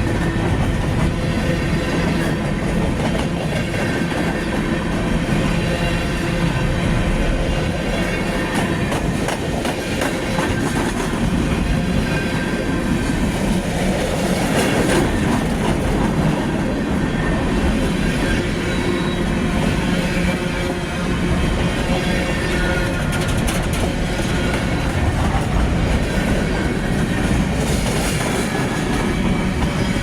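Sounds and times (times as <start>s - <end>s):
train cars rumbling past: 0.0s - 30.0s.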